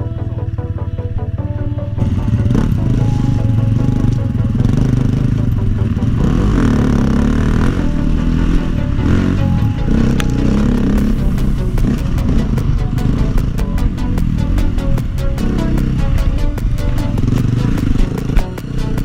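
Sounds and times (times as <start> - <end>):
electronic music: 0.0 - 19.0
motorcycle engine revving: 0.0 - 19.0.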